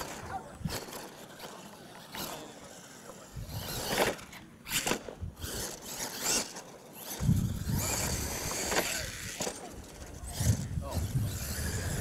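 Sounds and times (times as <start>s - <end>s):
toy truck tires scraping dirt: 0.0s - 12.0s.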